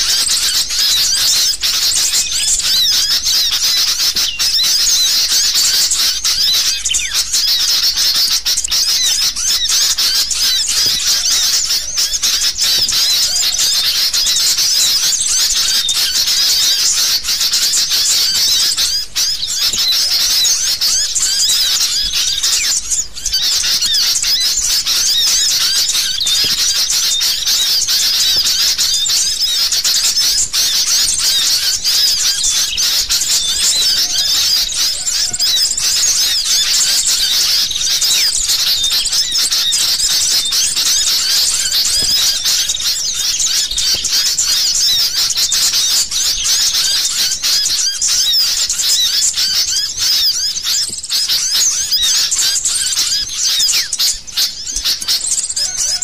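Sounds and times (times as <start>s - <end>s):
bulbuls chirping in chorus: 0.0s - 56.0s.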